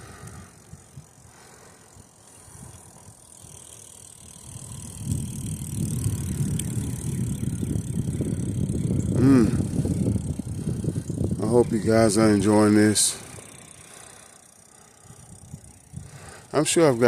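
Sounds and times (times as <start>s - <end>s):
bicycle riding on trail: 0.0s - 17.0s.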